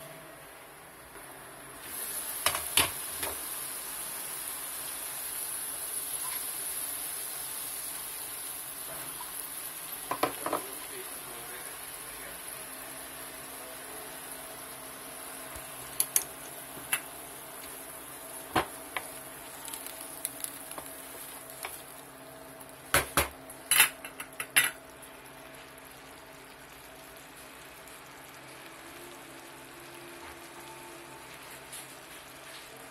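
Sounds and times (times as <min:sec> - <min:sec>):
vegetables sizzling in a wok: 0:00.0 - 0:32.9.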